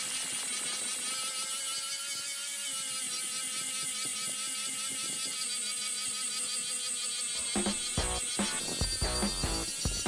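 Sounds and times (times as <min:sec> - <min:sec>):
angle grinder grinding steel: 0:00.0 - 0:10.0.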